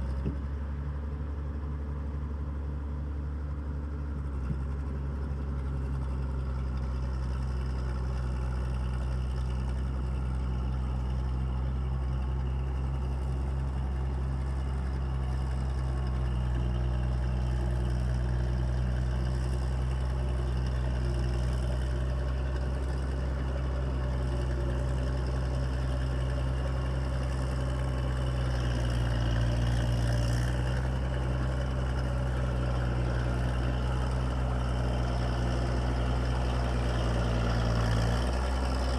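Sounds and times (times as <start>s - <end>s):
bulldozer diesel engine idling: 0.0s - 38.9s.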